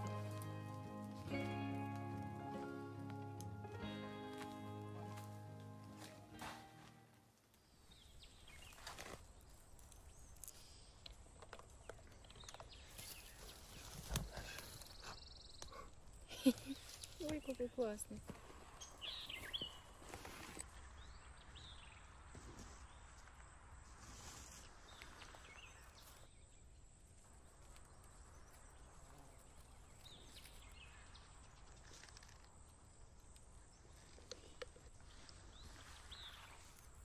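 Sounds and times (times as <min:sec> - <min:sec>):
faint rustling in shrubs: 0:00.0 - 0:11.0, 0:12.7 - 0:15.6, 0:16.2 - 0:37.0.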